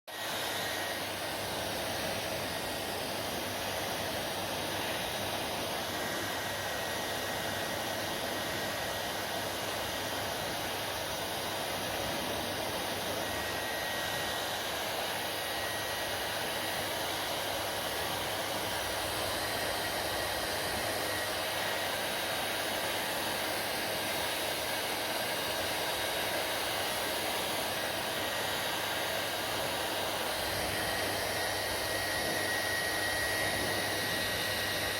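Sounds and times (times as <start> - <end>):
hair dryer blowing: 0.1 - 34.9.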